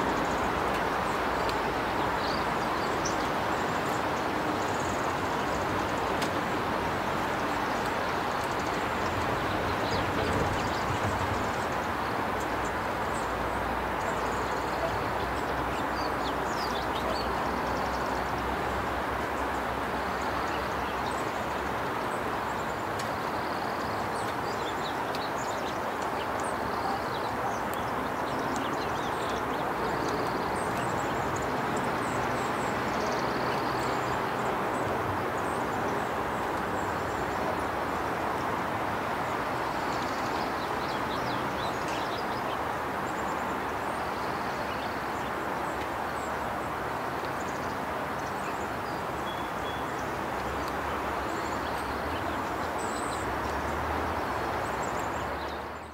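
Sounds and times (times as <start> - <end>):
steady outdoor rushing noise: 0.0 - 55.9.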